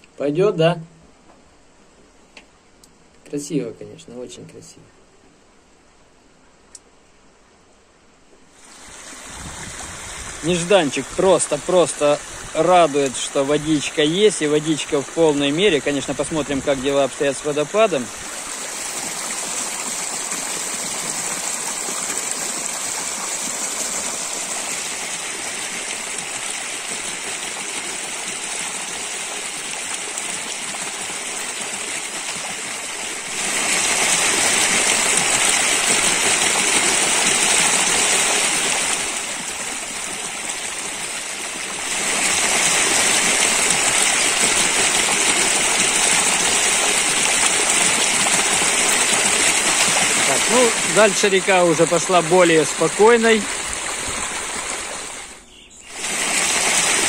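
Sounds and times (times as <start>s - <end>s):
stream rushing over rocks: 8.5s - 57.0s.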